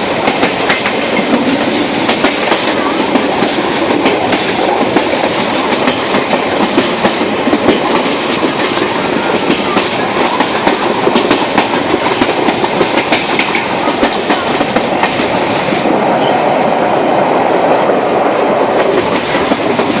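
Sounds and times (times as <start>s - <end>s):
train wheels clattering on rails: 0.0s - 16.8s, 17.6s - 20.0s.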